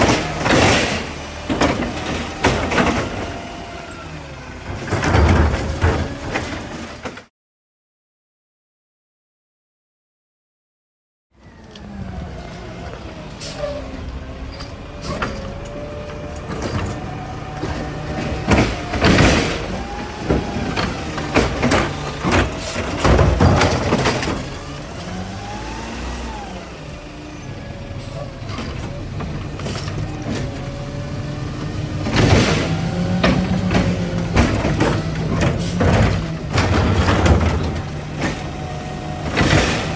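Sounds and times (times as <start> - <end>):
garbage truck engine: 0.0 - 7.3, 11.4 - 39.9
trash banging and clanking: 0.0 - 7.3, 12.4 - 39.9.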